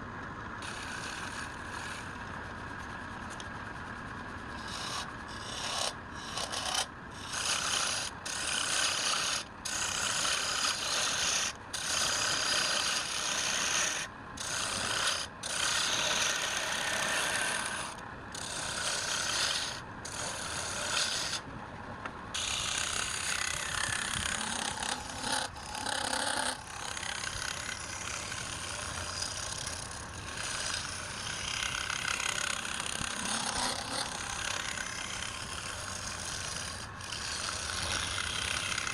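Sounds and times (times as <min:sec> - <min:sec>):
hand tool rasping against wood: 0:04.6 - 0:21.4, 0:22.4 - 0:38.9.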